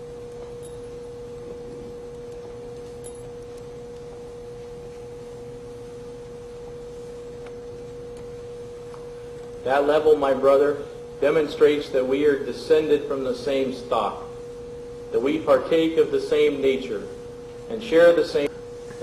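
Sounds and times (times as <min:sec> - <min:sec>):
steady pure tone: 0:00.0 - 0:19.0.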